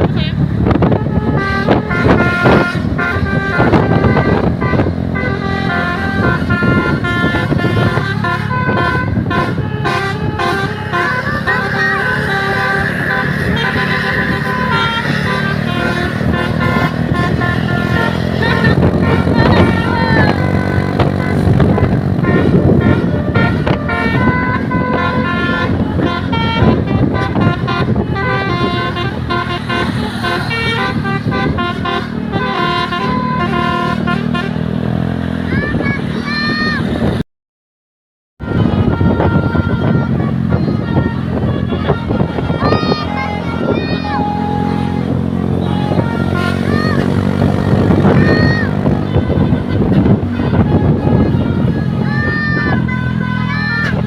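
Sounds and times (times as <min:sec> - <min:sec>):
bus horns playing a tune: 0:00.0 - 0:37.2, 0:38.4 - 0:54.0
low rumble of vehicle noise: 0:00.0 - 0:37.2, 0:38.4 - 0:54.0.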